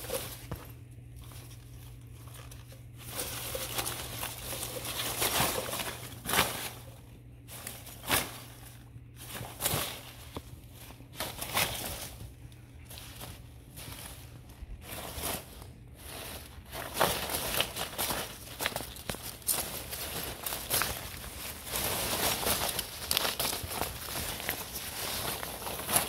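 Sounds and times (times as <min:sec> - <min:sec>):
packing peanuts and balls rustling: 0:00.0 - 0:26.0
steady low hum: 0:00.0 - 0:26.0.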